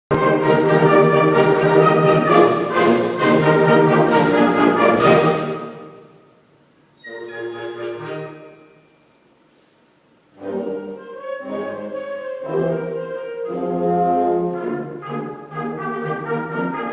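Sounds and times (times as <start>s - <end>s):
orchestral music with brass: 0.1s - 6.2s, 7.0s - 9.0s, 10.3s - 16.9s.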